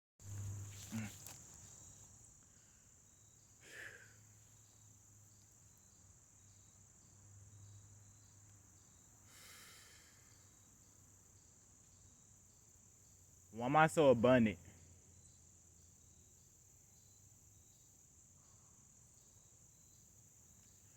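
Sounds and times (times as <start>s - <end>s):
insects trilling: 0.3s - 20.9s.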